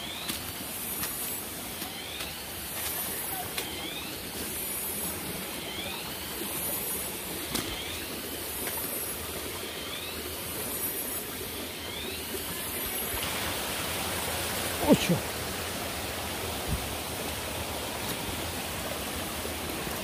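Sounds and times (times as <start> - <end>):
forest stream rushing: 0.0 - 20.0.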